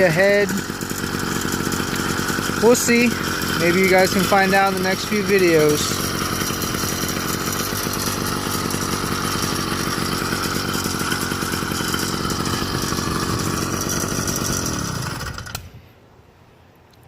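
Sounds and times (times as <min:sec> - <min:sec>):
small engine idling: 0:00.0 - 0:15.8.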